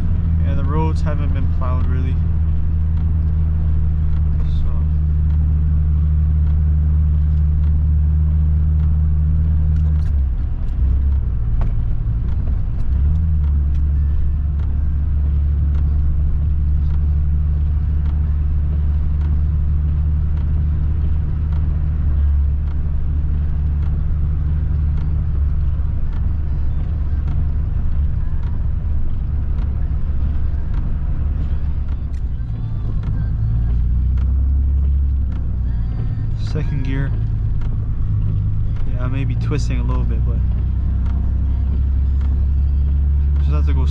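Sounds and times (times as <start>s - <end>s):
car engine at low revs: 0.0s - 43.9s.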